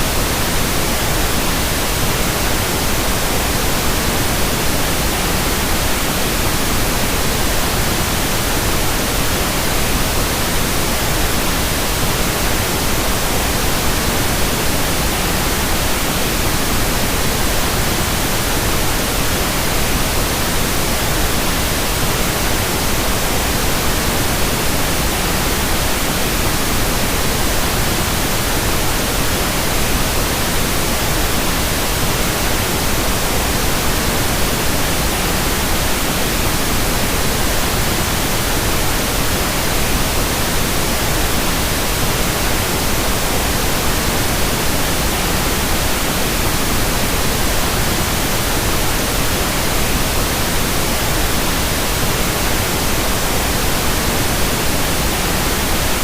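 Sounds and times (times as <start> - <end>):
steady broadband hiss: 0.0 - 56.0.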